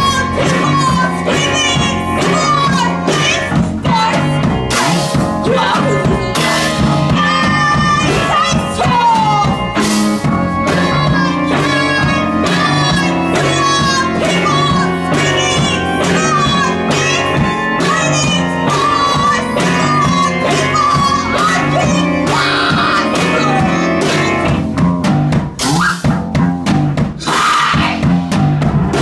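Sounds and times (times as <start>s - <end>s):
person singing: 0.0s - 9.8s, 10.6s - 24.6s
drum kit and cymbals: 0.0s - 29.0s
electric guitar: 0.0s - 29.0s
live band playing loud: 0.0s - 29.0s.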